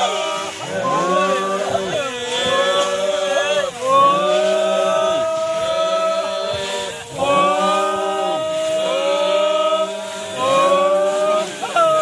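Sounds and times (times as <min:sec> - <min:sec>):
voices chanting long notes: 0:00.0 - 0:12.0.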